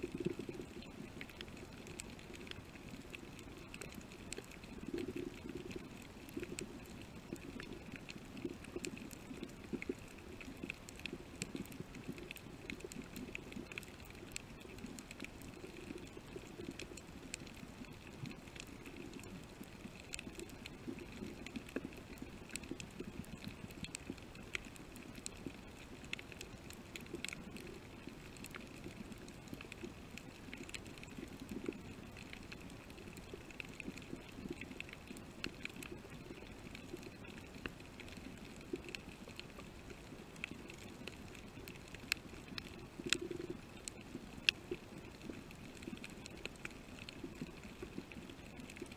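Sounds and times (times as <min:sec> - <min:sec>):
low underwater hum: 0:00.0 - 0:48.9
sharp clicks and crackles: 0:00.0 - 0:48.9.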